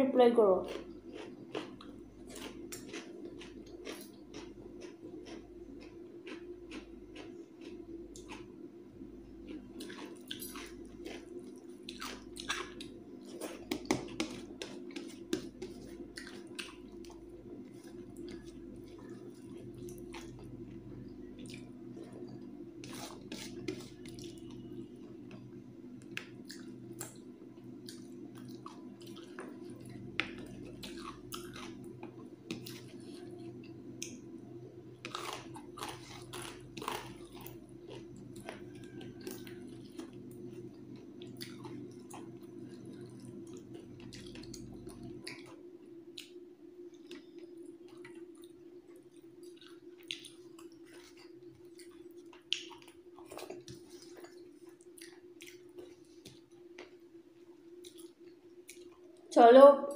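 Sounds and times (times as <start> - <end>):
chewing with wet mouth clicks: 0.7 - 8.5, 9.4 - 20.7, 21.3 - 24.6, 25.2 - 34.3, 35.0 - 57.0, 57.7 - 59.3.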